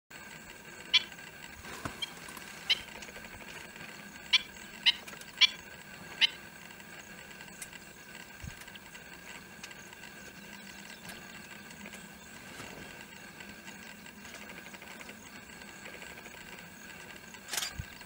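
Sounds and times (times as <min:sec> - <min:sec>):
faint steady hum: 0:00.2 - 0:18.0.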